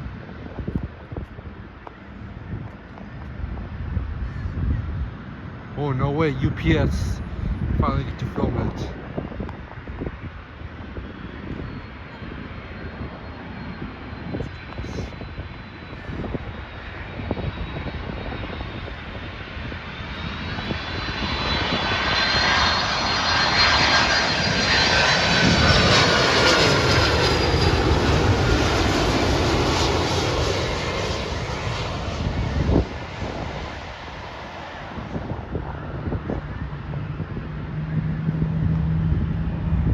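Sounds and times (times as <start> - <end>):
jet engine whine: 0.0 - 39.9
wind buffeting microphone: 0.0 - 39.9.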